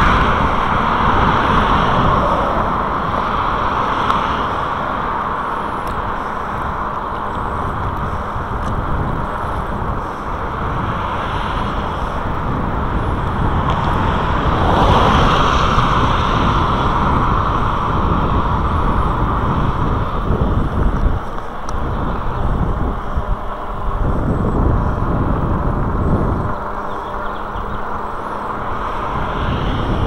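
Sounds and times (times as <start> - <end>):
road traffic: 0.0 - 30.0
vehicle passing: 0.0 - 30.0
wind on microphone: 0.0 - 30.0.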